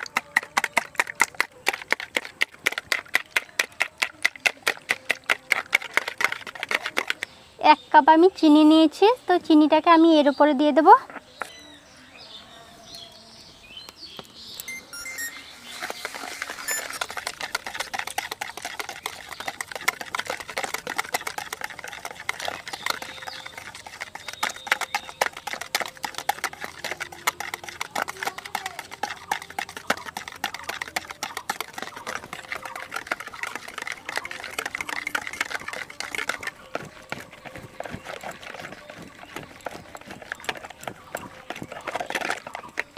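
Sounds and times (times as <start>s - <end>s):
whisk beating eggs in bowl: 0.0s - 7.3s, 15.6s - 42.9s.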